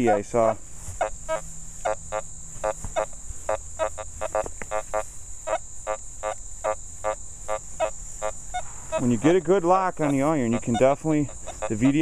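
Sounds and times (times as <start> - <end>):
metal detector beeps: 0.0 - 9.4, 10.0 - 12.0
insect chirring: 0.0 - 12.0.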